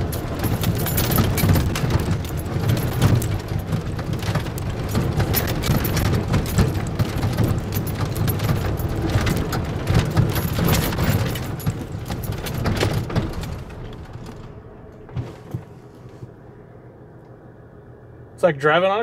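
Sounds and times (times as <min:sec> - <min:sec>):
cab rattles and clicks: 0:00.0 - 0:15.8
road and engine noise: 0:00.0 - 0:19.0.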